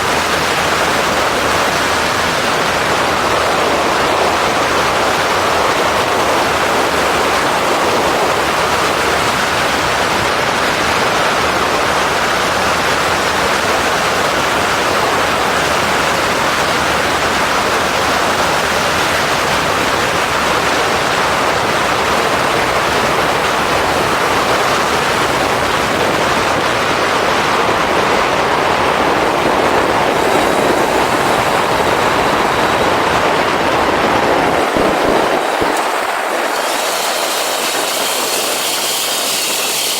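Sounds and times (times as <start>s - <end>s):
motorcycle engine: 0.0s - 39.9s
road noise: 0.0s - 39.9s
wind on microphone: 0.0s - 39.9s.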